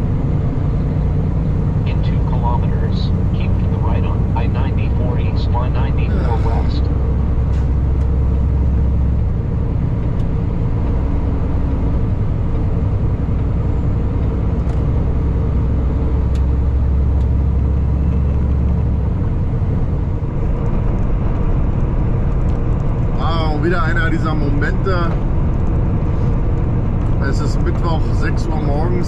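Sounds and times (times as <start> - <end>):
road noise: 0.0 - 29.0
truck engine drone: 0.0 - 29.0.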